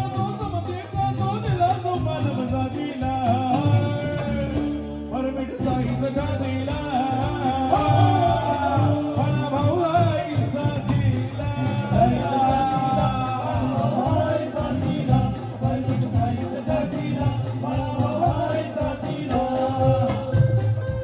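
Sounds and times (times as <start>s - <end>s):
steady percussion beat: 0.0s - 21.0s
wavering melodic lead line: 0.0s - 21.0s.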